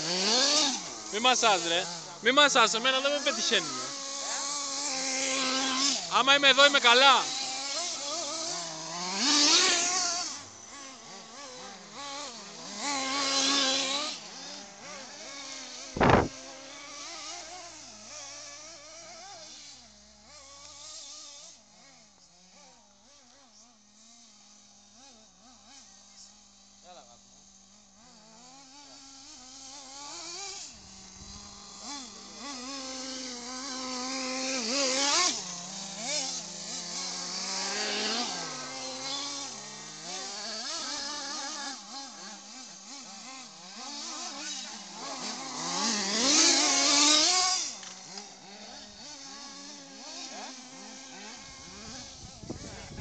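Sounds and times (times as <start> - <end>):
radio-controlled car engines revving: 0.0 - 53.0.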